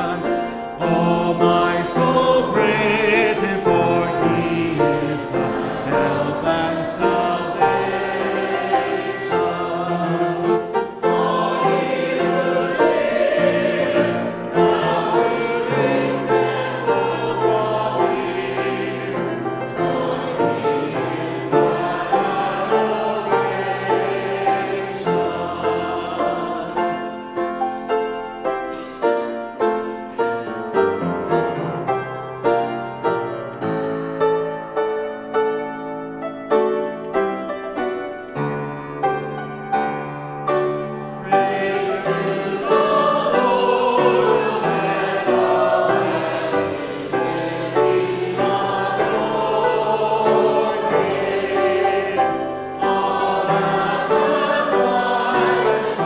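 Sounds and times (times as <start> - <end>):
choir singing: 0.0 - 33.3, 40.6 - 56.0
piano accompaniment: 0.0 - 56.0.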